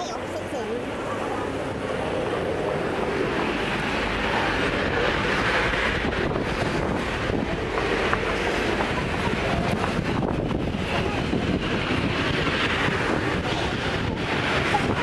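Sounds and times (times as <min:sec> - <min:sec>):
road traffic rush: 0:00.0 - 0:15.0
wind buffeting microphone: 0:00.0 - 0:15.0.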